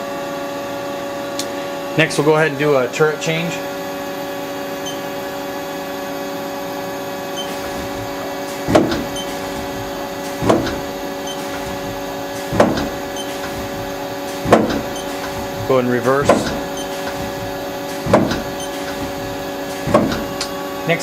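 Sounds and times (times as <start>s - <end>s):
machine humming: 0.0s - 21.0s
lathe turret whirring and clunking: 0.3s - 21.0s.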